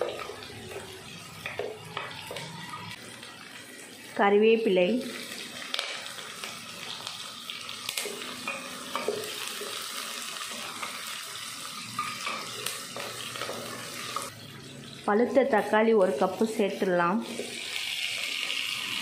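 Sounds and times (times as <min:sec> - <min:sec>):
shallots sizzling in hot oil: 0:00.0 - 0:19.0.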